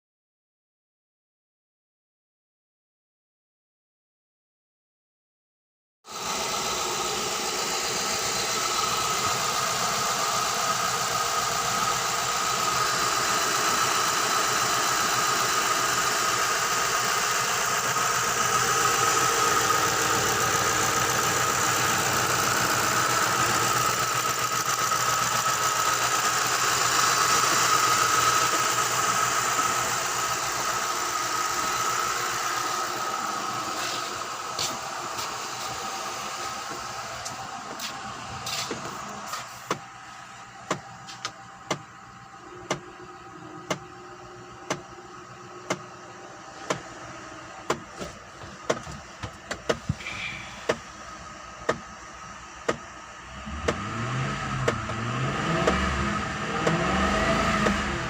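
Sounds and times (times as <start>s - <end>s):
car engine idling: 6.1s - 58.0s.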